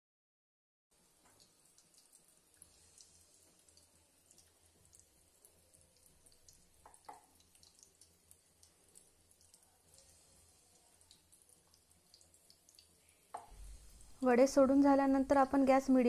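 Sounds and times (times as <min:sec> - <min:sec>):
faint sizzling of deep-frying: 0:00.9 - 0:16.0
oil crackles and pops: 0:01.2 - 0:14.2.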